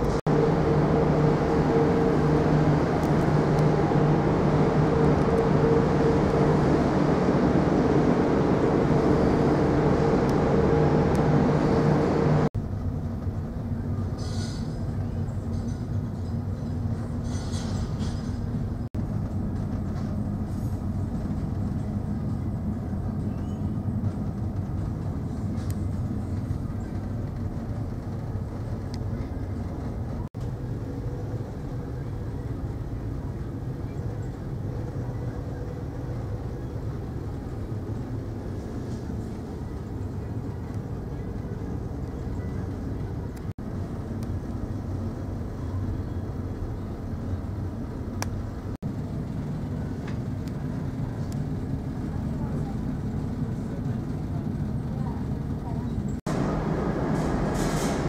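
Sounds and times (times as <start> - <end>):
ferry engine drone: 0.0 - 58.0.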